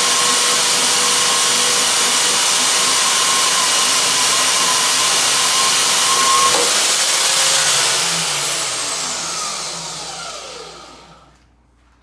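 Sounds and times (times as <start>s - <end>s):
bandsaw cutting metal tube: 0.0s - 11.1s.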